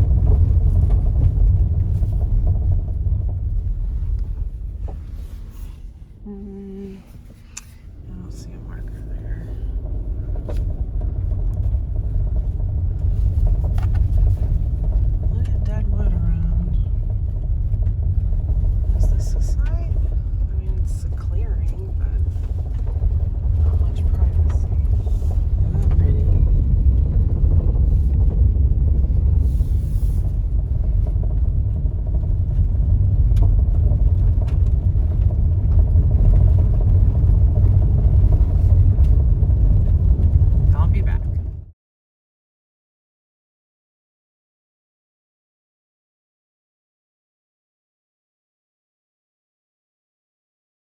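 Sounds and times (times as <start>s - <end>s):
car driving on gravel road: 0.0s - 41.7s.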